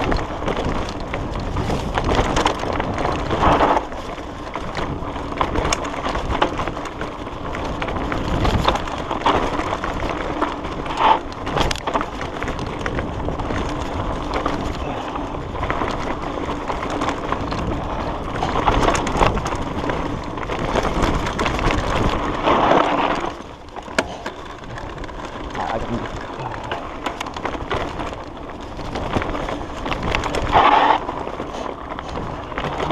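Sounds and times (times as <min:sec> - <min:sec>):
bike rattling over stones: 0:00.0 - 0:32.9
tyre and wind rush: 0:00.0 - 0:32.9.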